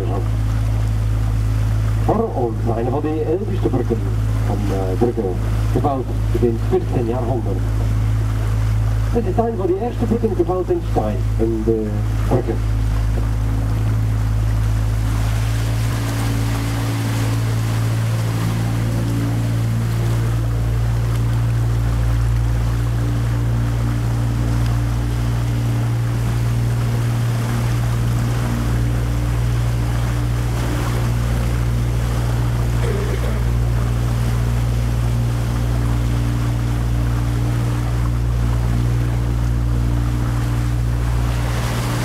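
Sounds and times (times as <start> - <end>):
boat engine droning: 0.0 - 42.0.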